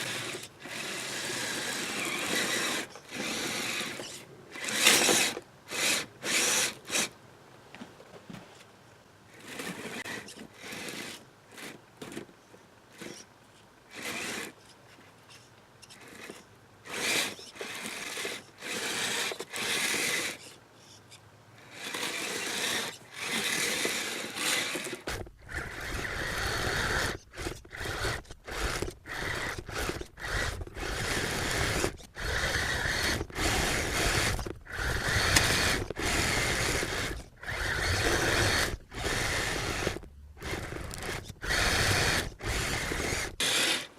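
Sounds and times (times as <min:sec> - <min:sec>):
rc vehicle motor whirring: 0:00.0 - 0:07.1, 0:09.3 - 0:12.3, 0:12.9 - 0:43.9.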